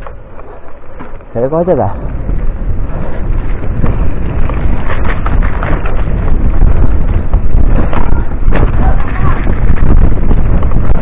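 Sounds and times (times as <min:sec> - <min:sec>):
bike knocks and rattles: 0:00.0 - 0:01.5, 0:02.1 - 0:11.0
low rumble: 0:00.0 - 0:11.0
wind buffeting microphone: 0:00.0 - 0:11.0.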